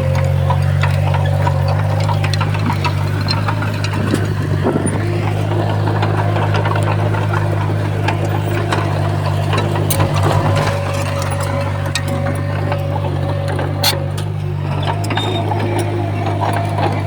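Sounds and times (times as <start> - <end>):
heavy diesel engine running: 0.0 - 17.0
light clicks and clanks: 0.0 - 17.0.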